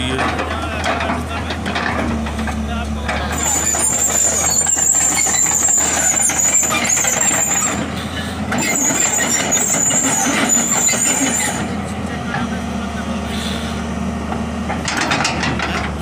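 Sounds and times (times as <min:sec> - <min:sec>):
excavator diesel engine rumble: 0:00.0 - 0:16.0.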